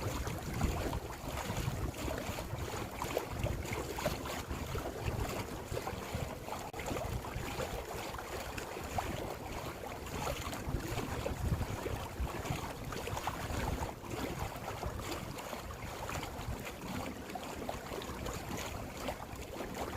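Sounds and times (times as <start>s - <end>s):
wind buffeting microphone: 0.0s - 17.1s
water rushing along boat hull: 0.0s - 19.9s.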